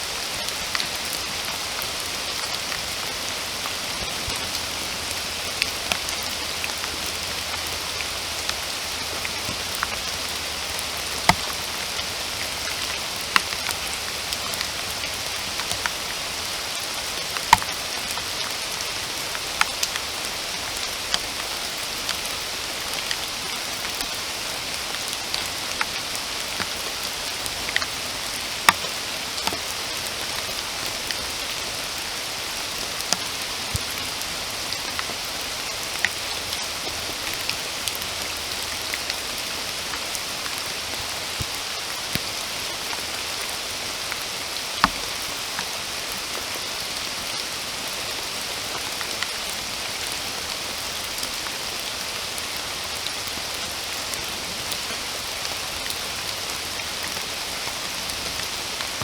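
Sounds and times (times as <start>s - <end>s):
raindrops ticking close by: 0.0s - 59.0s
steady rain hiss: 0.0s - 59.0s.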